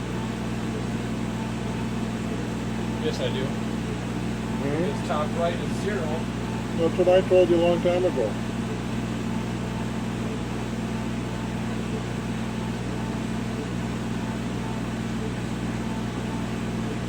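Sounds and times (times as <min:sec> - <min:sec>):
low steady machine hum: 0:00.0 - 0:17.0.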